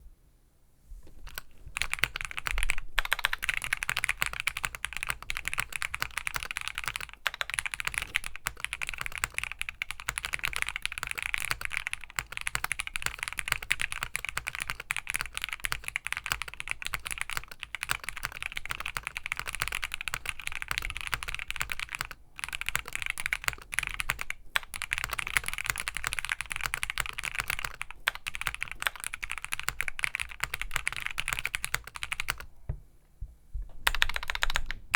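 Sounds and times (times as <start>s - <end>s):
mechanical keyboard typing: 1.3s - 32.5s, 33.8s - 34.9s.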